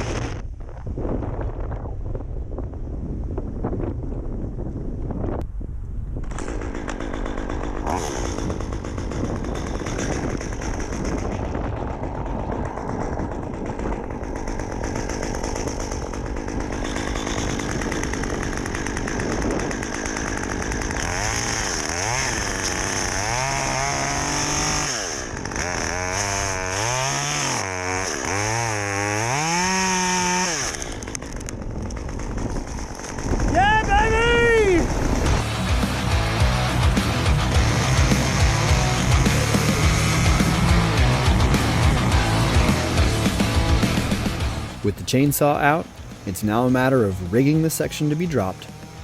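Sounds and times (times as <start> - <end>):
chainsaw engine revving: 0.0 - 0.4, 6.3 - 34.0, 34.6 - 49.0.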